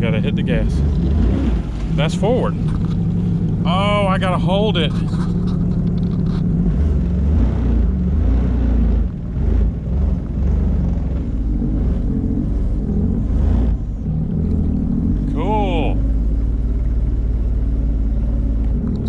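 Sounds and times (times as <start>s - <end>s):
jet ski engine rumbling: 0.0s - 19.0s.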